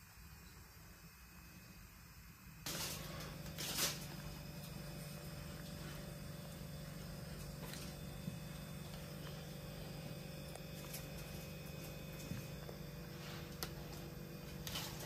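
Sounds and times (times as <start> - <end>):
steady low hum: 0.0 - 15.0
plastic bag rustling: 2.7 - 15.0.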